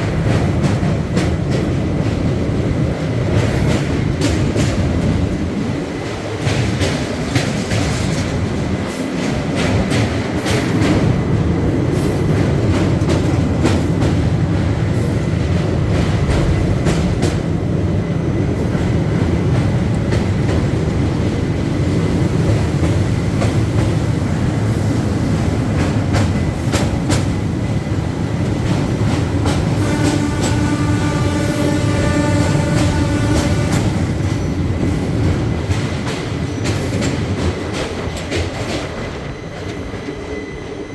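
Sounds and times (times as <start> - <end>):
train wheels rumbling: 0.0 - 40.9.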